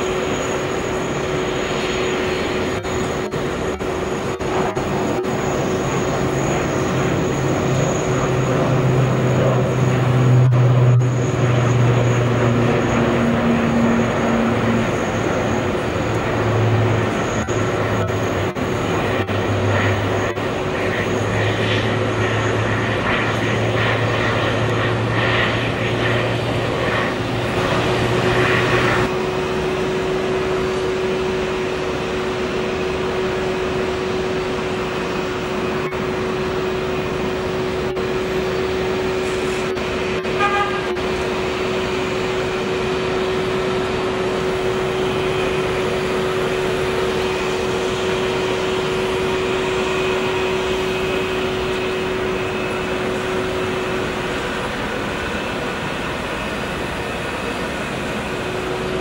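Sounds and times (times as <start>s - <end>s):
jet engines idling drone: 0.0s - 59.0s.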